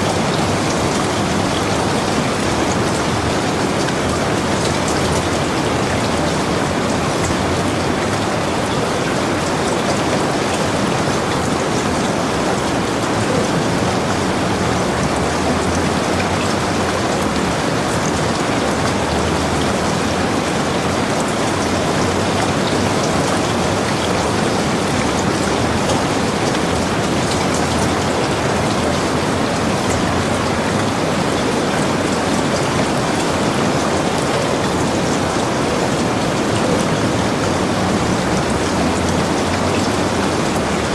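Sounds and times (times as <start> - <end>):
heavy rain on a cabin roof: 0.0 - 40.9.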